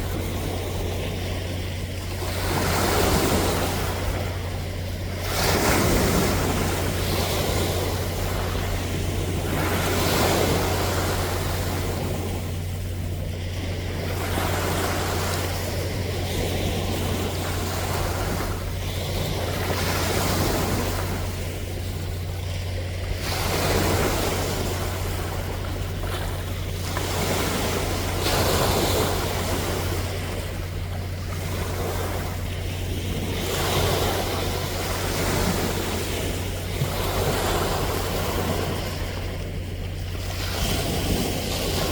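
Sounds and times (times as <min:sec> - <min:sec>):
sea waves washing on shore: 0:00.0 - 0:41.9
steady low hum: 0:00.0 - 0:41.9.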